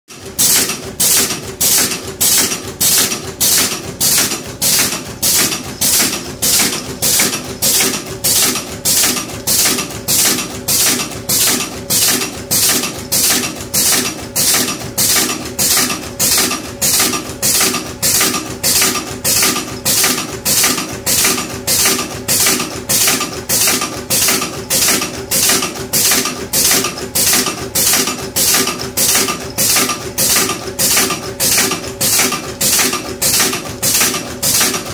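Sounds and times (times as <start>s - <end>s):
machine stroke bursts: 0.2s - 34.9s
machine hum: 0.3s - 34.9s.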